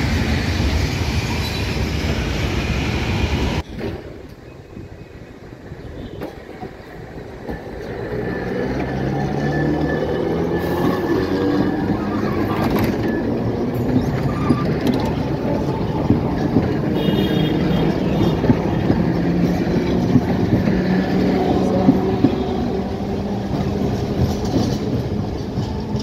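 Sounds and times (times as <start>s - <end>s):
tram motor hum: 0.0s - 26.0s
tram wheels rumbling on rails: 0.0s - 26.0s.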